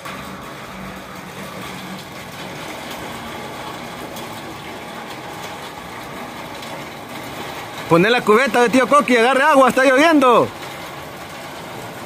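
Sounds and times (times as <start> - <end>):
water splashing on metal roof: 0.0 - 12.0.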